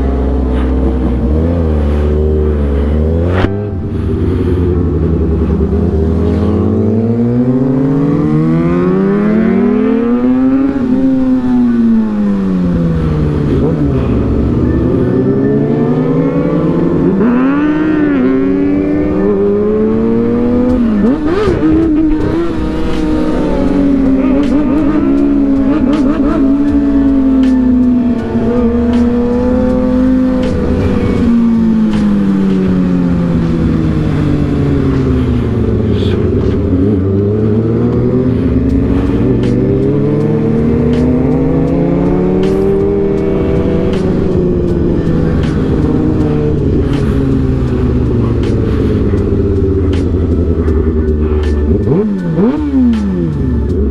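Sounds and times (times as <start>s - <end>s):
vehicle engine revving: 0.0s - 53.9s.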